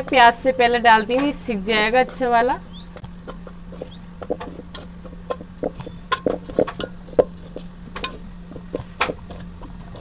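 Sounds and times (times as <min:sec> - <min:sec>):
spoon stirring in a pot: 0:01.1 - 0:10.0.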